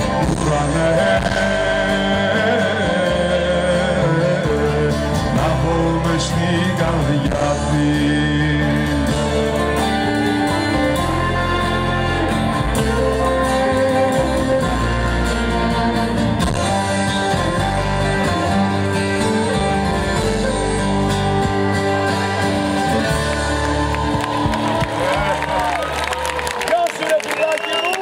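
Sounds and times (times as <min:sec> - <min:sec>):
acoustic guitar: 0:00.0 - 0:26.5
live band playing: 0:00.0 - 0:28.0.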